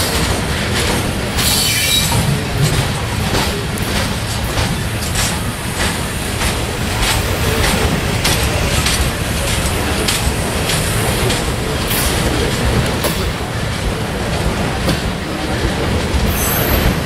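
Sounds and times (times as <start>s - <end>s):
train rumbling past: 0.0s - 17.0s
wheels clacking on rails: 0.0s - 17.0s.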